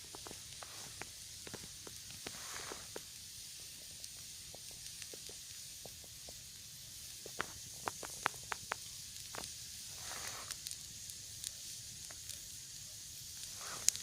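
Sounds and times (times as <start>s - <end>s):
campfire crackling: 0.0s - 14.0s
sharp fire pops: 0.0s - 14.0s
steady hiss: 0.0s - 14.0s.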